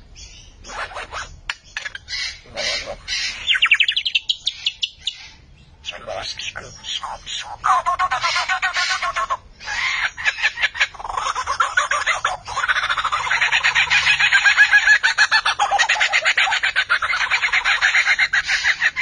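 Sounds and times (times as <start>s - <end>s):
lyrebird calling: 0.0s - 19.0s.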